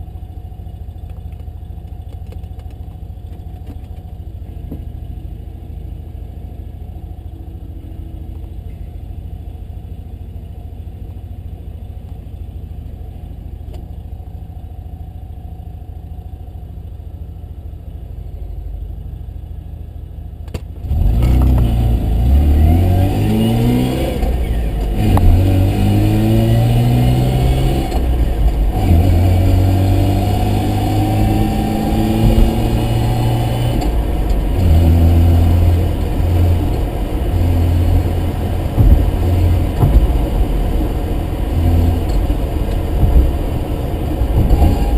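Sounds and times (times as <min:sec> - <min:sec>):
rotary engine idling and revving: 0:00.0 - 0:44.9.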